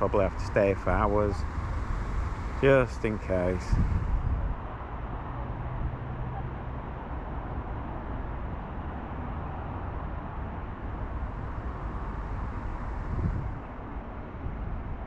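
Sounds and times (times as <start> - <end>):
distant motor traffic rumble: 0.0 - 15.0
low engine hum: 0.0 - 15.0.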